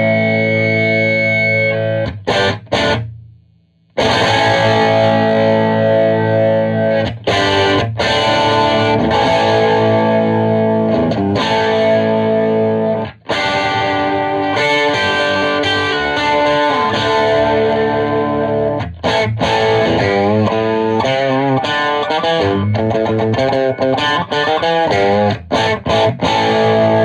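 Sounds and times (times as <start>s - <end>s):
distorted electric guitar chords: 0.0s - 3.3s, 4.0s - 27.0s
wavering bent guitar notes: 0.0s - 3.3s, 4.0s - 27.0s.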